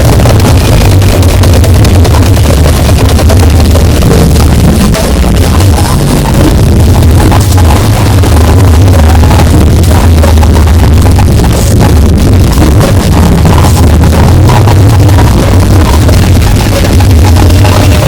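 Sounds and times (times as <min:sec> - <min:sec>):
loud distorted bass-heavy music: 0:00.0 - 0:18.0.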